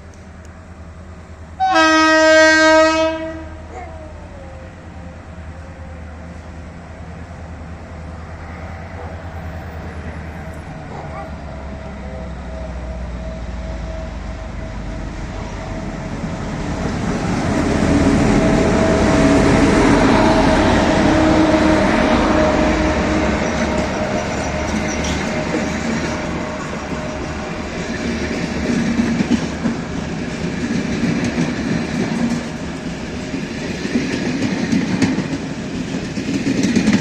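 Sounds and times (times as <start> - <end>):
diesel locomotive engine: 0.0 - 37.0
train wheels on rails: 4.7 - 37.0.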